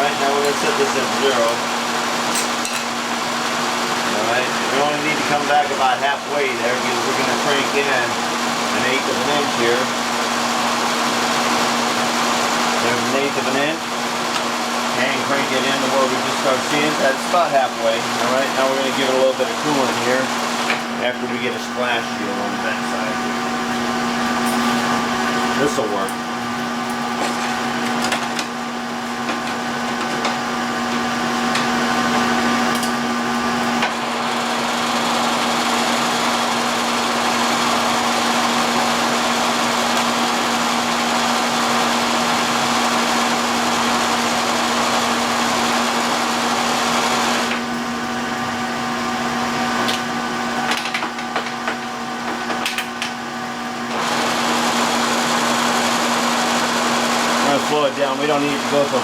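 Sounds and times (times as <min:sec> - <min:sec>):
milling machine spindle humming: 0:00.0 - 0:59.0.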